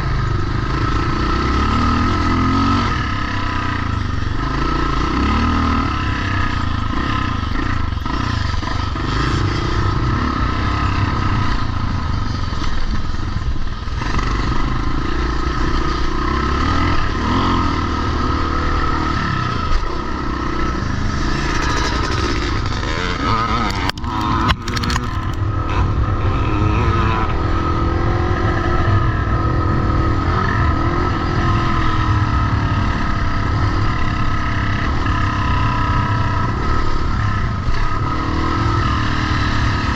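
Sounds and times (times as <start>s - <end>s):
motocross motorcycles revving: 0.0s - 39.9s.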